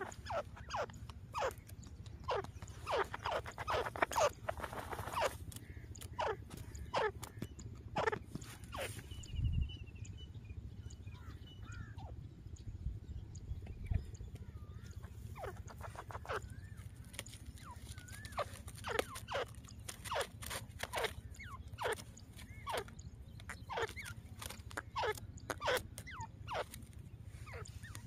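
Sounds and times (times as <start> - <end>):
francolins calling: 0.0 - 28.0
small birds chirping: 0.0 - 28.0
steady low rumble: 0.0 - 28.0.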